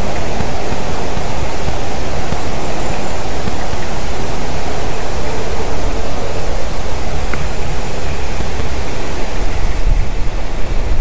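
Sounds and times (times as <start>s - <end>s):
loud rushing noise: 0.0s - 11.0s.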